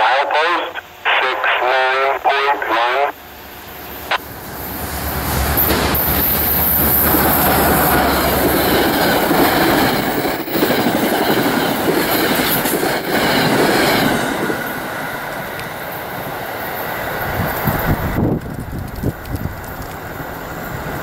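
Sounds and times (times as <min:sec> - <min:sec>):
train passing at speed: 0:03.1 - 0:21.0.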